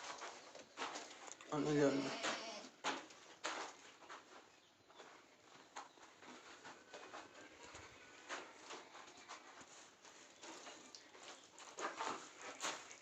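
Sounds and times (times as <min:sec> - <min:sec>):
hooves tapping on floor: 0:00.0 - 0:13.0.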